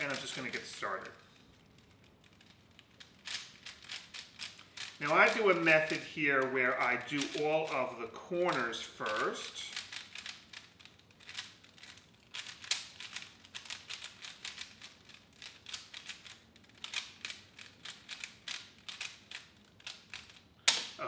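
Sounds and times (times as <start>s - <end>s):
puzzle cube plastic clicking: 0.0s - 21.0s.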